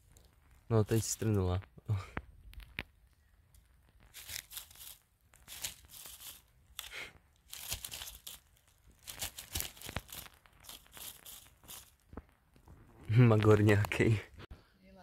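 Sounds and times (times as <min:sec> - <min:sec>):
leaves and twigs crackling underfoot: 0:00.0 - 0:14.3.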